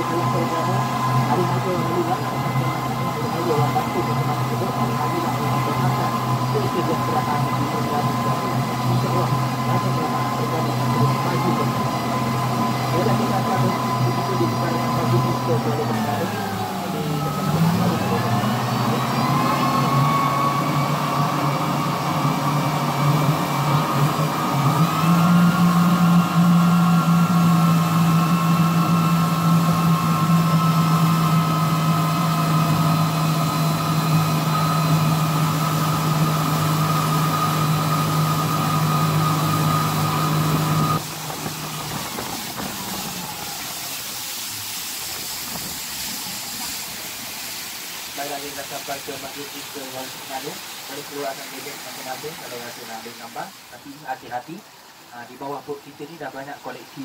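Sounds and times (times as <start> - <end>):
boat engine running: 0.0 - 57.0
hiss of water and wind: 0.0 - 57.0.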